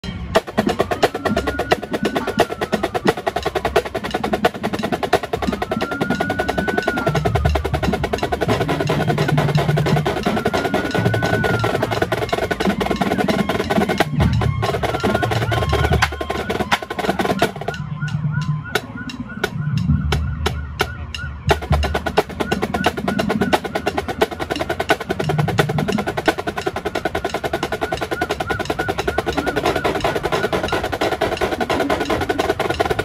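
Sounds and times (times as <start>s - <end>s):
snare drums playing rapidly: 0.2s - 33.0s.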